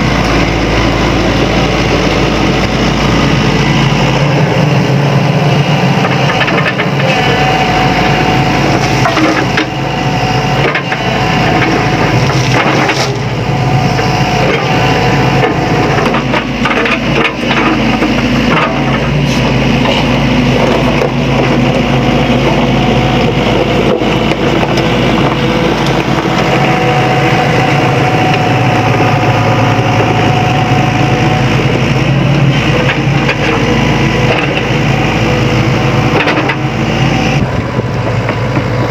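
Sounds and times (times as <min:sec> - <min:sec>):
excavator diesel engine running: 0:00.0 - 0:38.9
hydraulic whine: 0:00.0 - 0:38.9.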